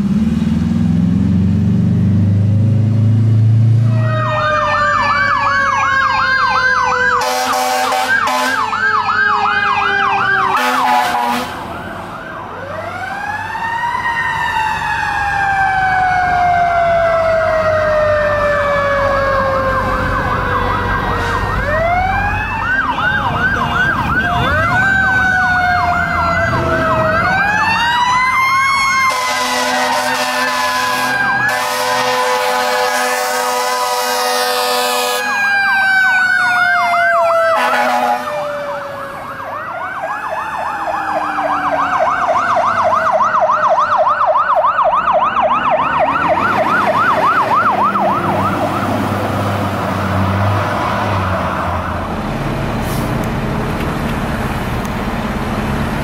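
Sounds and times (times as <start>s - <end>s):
fire truck siren yelp: 1.1s - 56.0s
wailing siren: 2.5s - 52.8s.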